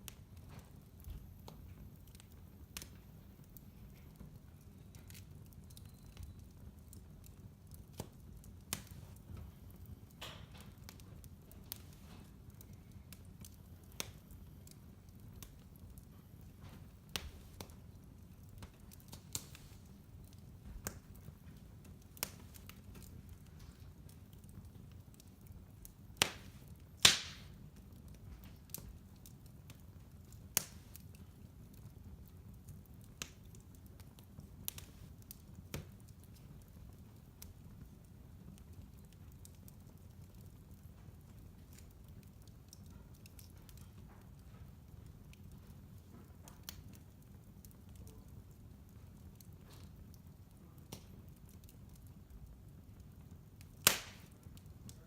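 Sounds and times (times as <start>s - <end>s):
fire crackling and popping: 0.0s - 55.0s
fire rumbling: 0.0s - 55.0s.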